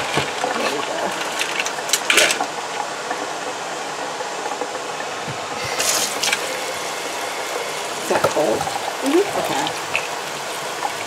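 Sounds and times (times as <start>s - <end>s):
faucet running water: 0.0s - 11.0s.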